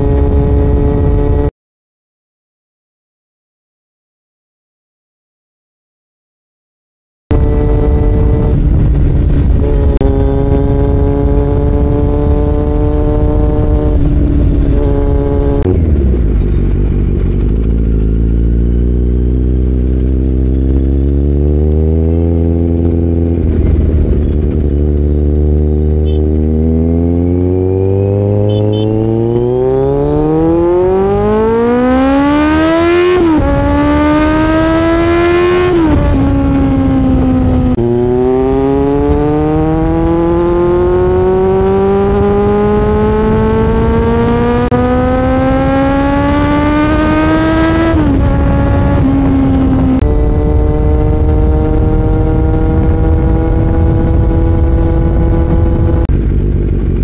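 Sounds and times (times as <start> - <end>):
motorcycle engine revving: 0.0 - 1.5, 7.3 - 57.0.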